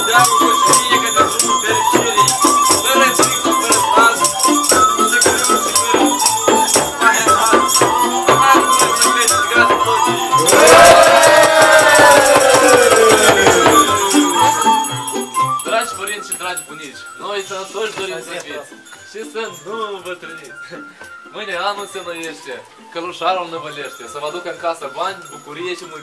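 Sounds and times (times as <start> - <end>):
jingle bells shaken: 0.0 - 26.0.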